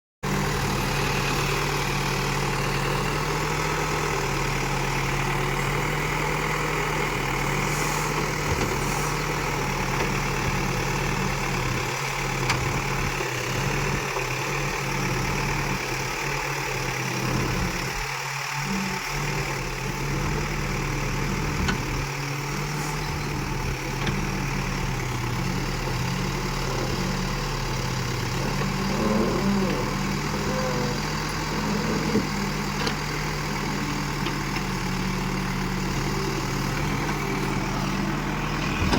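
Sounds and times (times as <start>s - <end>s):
diesel engine running: 0.2s - 38.9s.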